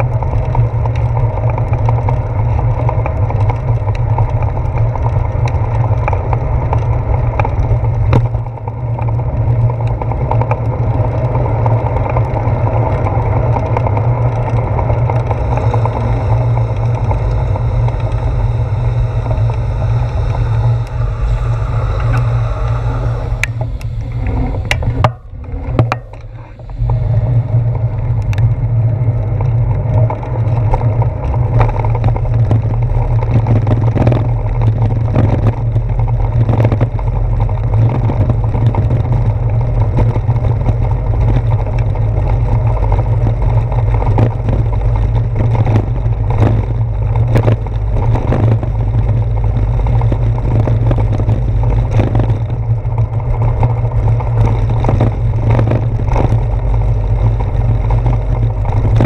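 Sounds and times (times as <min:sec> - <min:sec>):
bicycle knocks and rattles: 0:00.0 - 0:18.2, 0:23.4 - 0:59.0
wind and road rumble: 0:00.0 - 0:59.0.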